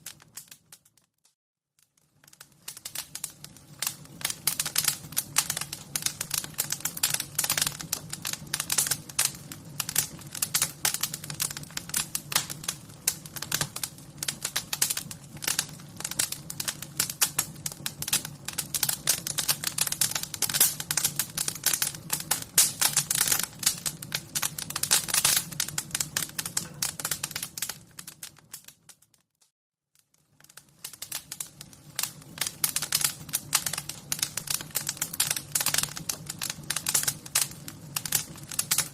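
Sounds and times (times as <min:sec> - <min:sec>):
wood fire crackling: 0:00.0 - 0:01.1, 0:01.8 - 0:29.2, 0:30.0 - 0:38.9.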